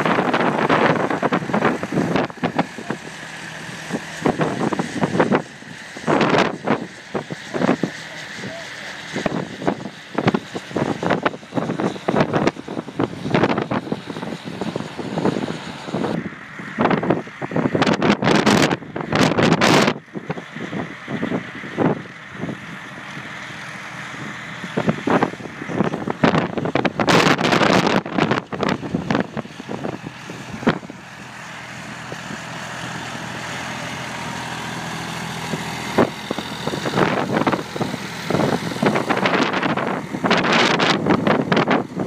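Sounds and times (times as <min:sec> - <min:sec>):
tractor engine running: 0:00.0 - 0:42.0
wind buffeting microphone: 0:00.0 - 0:42.0.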